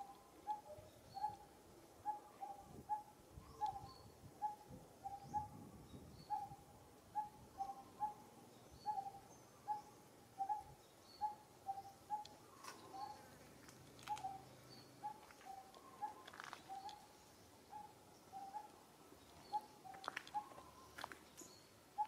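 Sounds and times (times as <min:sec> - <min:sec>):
faint high bird chirps: 0:00.0 - 0:06.6, 0:07.2 - 0:22.0.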